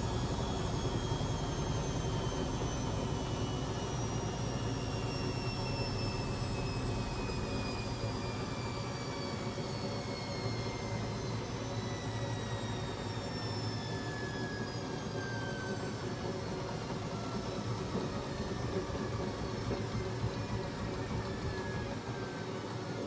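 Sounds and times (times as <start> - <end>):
washing machine motor whirring: 0.0 - 23.0.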